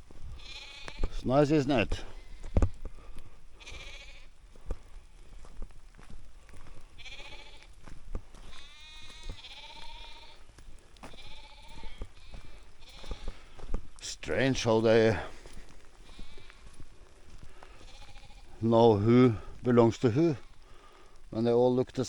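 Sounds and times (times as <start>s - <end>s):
sheep and lambs bleating: 0.1s - 5.1s, 6.6s - 22.0s.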